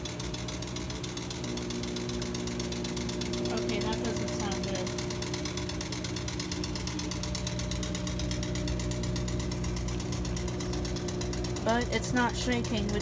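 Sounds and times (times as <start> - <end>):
fast even rattle: 0.0 - 13.0
washing machine motor hum: 0.0 - 13.0.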